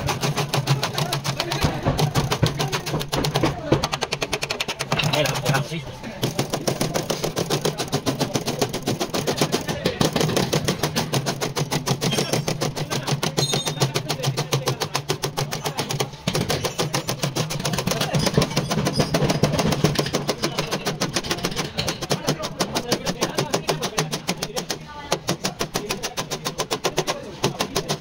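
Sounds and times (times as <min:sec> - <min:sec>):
hammer tapping on sheet metal: 0:00.0 - 0:28.0.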